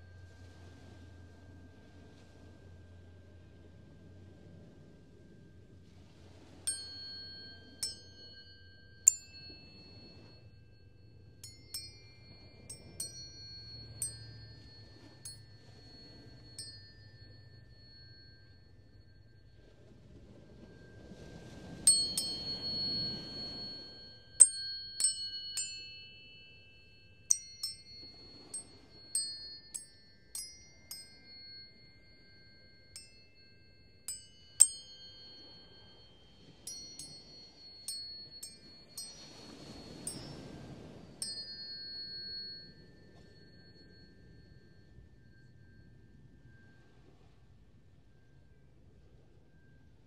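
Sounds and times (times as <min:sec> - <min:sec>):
tuning forks ringing: 0:00.0 - 0:50.0.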